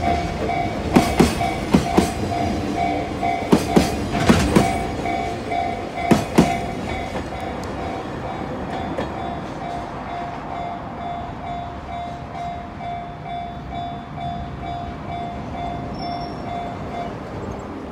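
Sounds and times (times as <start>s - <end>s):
freight train rumbling past: 0.0s - 17.9s.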